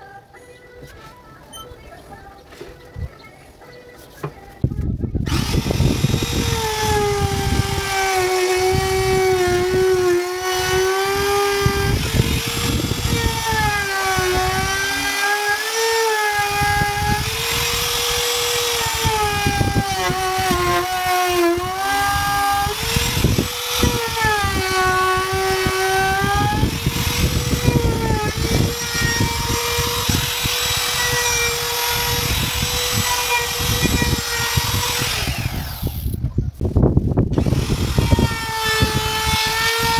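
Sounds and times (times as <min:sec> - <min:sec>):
router bit cutting wood: 0:05.2 - 0:36.2, 0:37.3 - 0:39.9
router motor whine: 0:05.2 - 0:36.2, 0:37.3 - 0:39.9.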